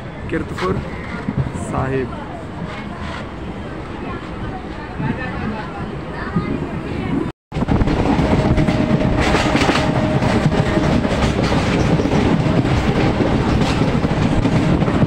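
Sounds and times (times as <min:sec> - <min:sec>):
train wheel rumble and rattle: 0:00.2 - 0:15.0.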